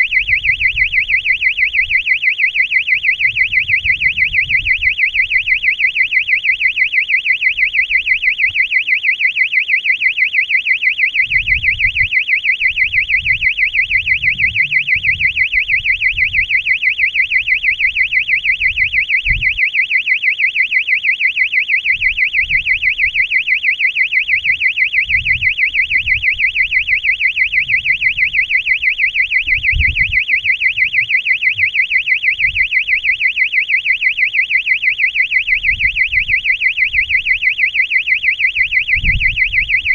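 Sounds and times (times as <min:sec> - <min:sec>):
electronic buzzer warbling alarm: 0:00.0 - 0:39.9.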